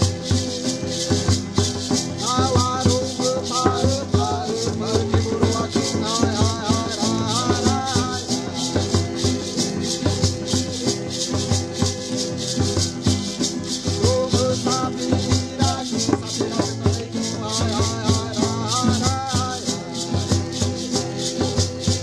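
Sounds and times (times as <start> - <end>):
maracas rattle: 0.0 - 22.0.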